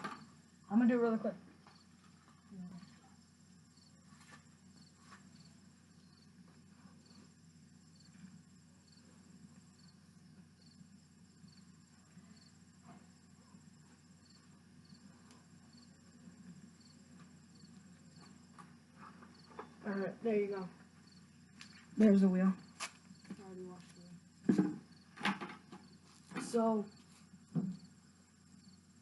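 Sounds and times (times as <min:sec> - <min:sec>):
cricket chirping: 0:00.0 - 0:29.0
low steady hum: 0:00.0 - 0:29.0.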